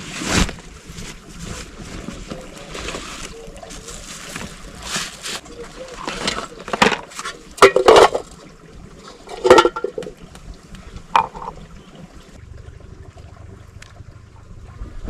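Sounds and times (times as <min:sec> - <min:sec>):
water splashing and sloshing: 0:00.0 - 0:15.0
water trickling: 0:00.0 - 0:15.0.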